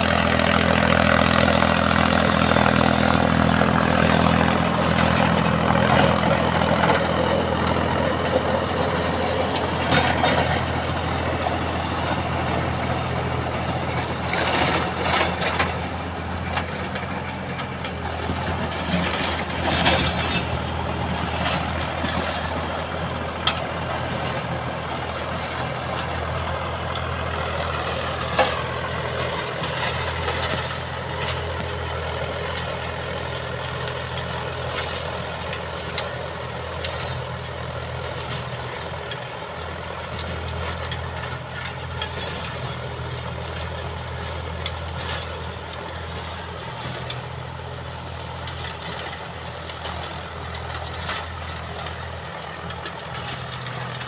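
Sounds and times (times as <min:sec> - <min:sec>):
rotavator tilling dry soil: 0:00.0 - 0:54.0
tractor diesel engine under load: 0:00.0 - 0:54.0.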